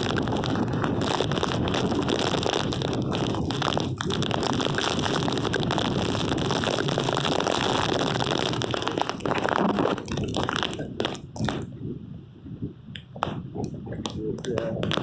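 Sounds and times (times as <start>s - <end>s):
hurricane wind buffeting microphone: 0.0s - 15.0s.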